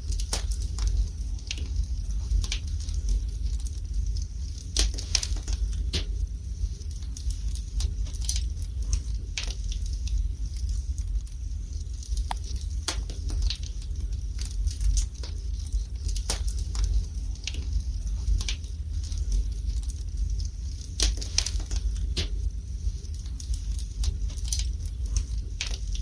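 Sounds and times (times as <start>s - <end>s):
low rumble: 0.0s - 26.0s
wood fire crackling and popping: 0.0s - 26.0s.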